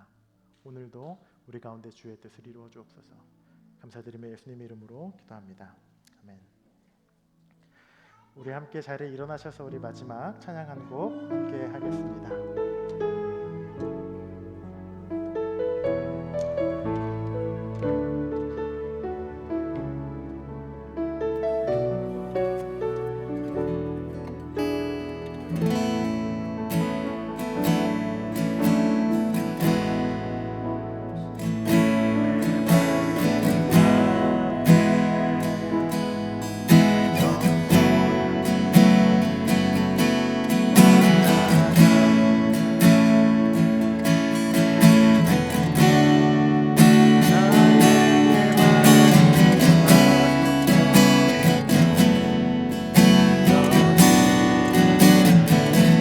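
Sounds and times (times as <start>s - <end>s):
acoustic guitar strumming: 11.1s - 56.0s.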